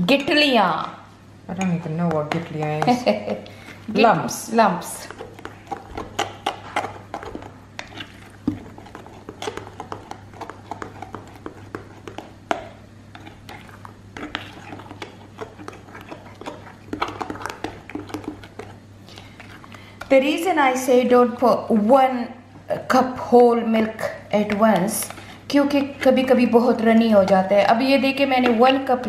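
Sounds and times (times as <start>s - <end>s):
spoon stirring thick batter: 0.1s - 21.8s, 23.6s - 29.0s.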